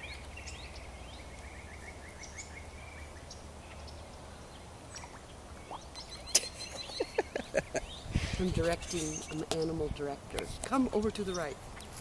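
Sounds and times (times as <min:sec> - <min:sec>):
higher bird chirps: 0:00.0 - 0:09.8
songbird repeated rising notes: 0:00.0 - 0:09.8.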